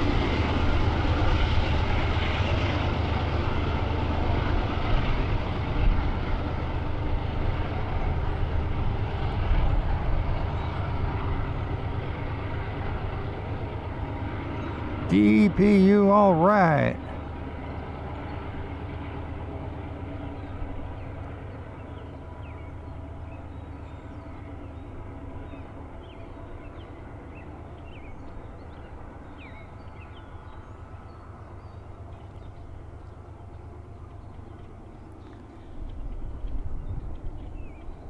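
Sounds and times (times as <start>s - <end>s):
diesel locomotive engine running hard: 0.0s - 38.0s.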